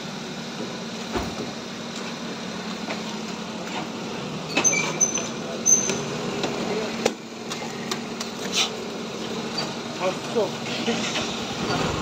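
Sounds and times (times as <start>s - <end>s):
fuel pump machinery humming: 0.0s - 12.0s.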